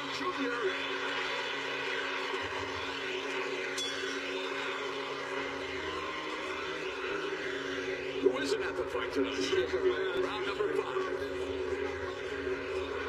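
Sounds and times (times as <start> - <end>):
crowd noise in an arena: 0.0 - 13.0.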